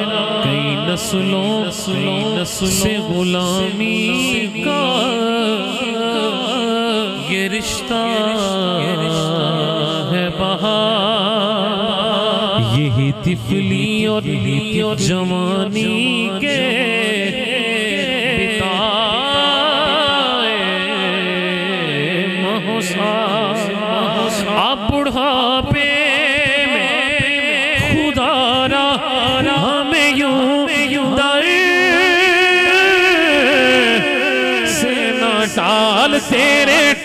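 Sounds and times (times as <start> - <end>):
man singing into microphone: 0.0 - 37.0.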